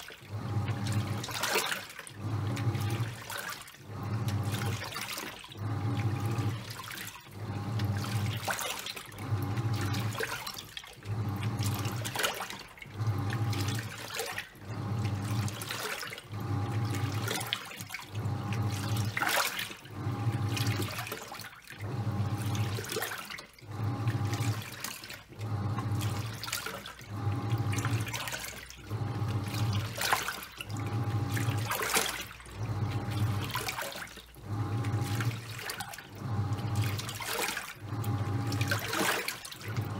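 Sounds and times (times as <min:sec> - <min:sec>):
washing machine motor humming: 0:00.0 - 0:39.9
water sloshing in tub: 0:00.0 - 0:39.9.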